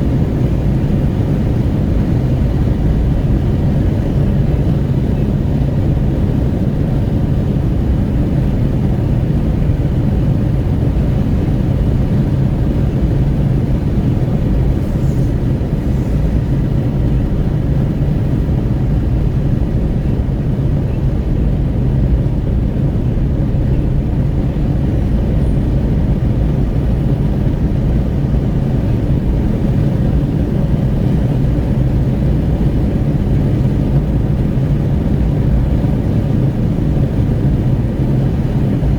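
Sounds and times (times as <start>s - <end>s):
road and tyre noise: 0.0s - 38.9s
wind rushing at car window: 0.0s - 38.9s.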